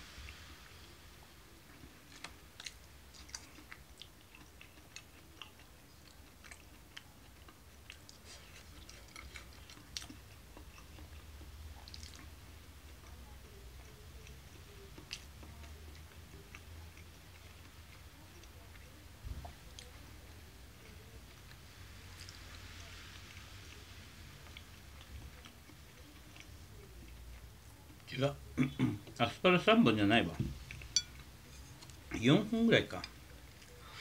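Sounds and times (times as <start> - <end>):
faint low hum: 0.0 - 34.0
person chewing food: 1.2 - 28.1, 30.5 - 32.3, 32.9 - 34.0.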